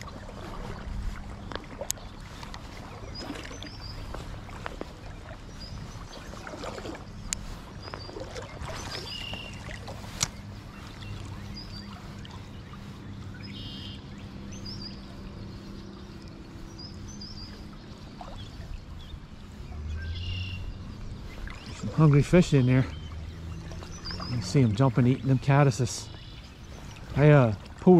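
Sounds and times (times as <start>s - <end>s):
low hum: 0.0s - 27.8s
stream water running: 0.0s - 27.9s
small birds chirping: 1.0s - 27.9s.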